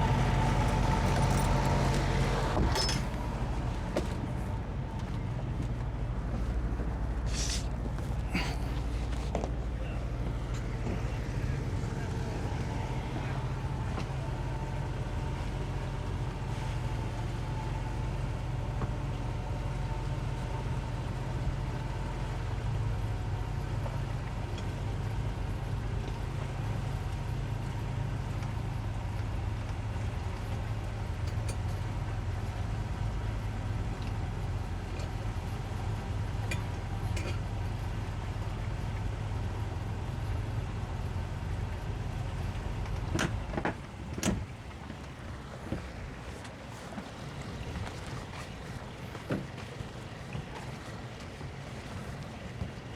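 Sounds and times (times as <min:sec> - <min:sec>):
outboard motors humming: 0:00.0 - 0:52.9.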